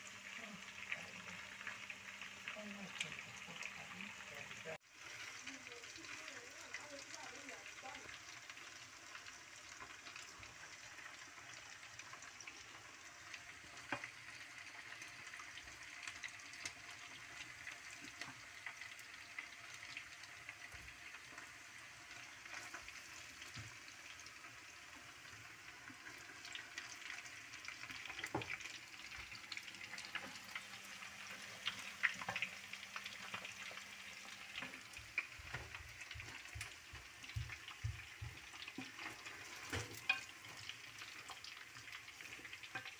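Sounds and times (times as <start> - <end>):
meat sizzling in oil: 0.0 - 42.9
oil crackles and pops: 0.0 - 42.9.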